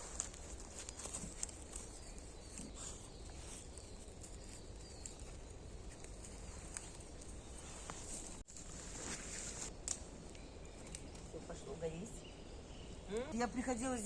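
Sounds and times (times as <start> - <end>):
campfire crackling: 0.0 - 11.6.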